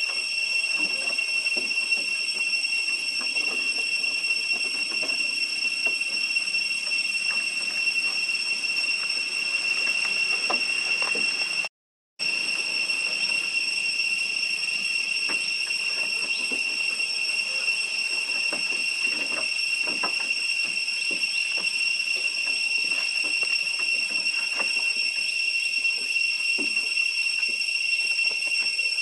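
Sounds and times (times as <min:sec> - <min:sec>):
high-pitched drone: 0:00.0 - 0:29.0.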